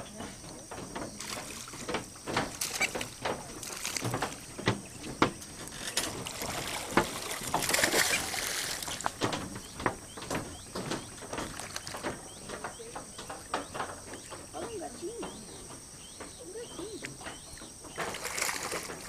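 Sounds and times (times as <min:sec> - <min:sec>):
animals splashing in muddy water: 0:00.0 - 0:19.0.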